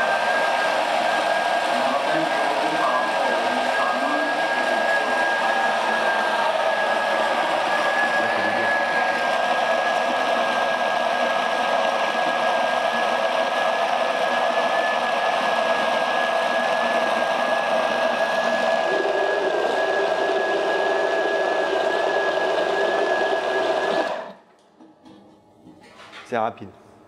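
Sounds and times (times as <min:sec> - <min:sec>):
blender motor whine: 0:00.0 - 0:24.5.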